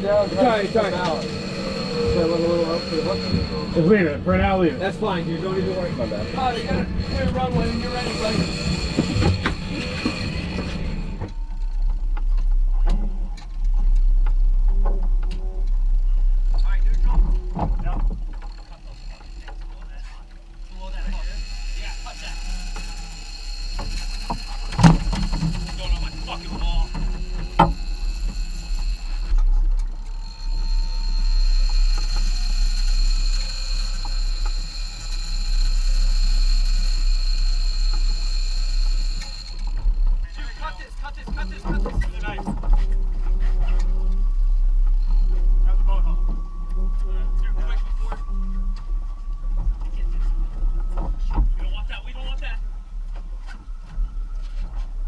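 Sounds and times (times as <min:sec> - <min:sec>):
low rumble: 0:00.0 - 0:55.0
steady high whine: 0:00.0 - 0:55.0.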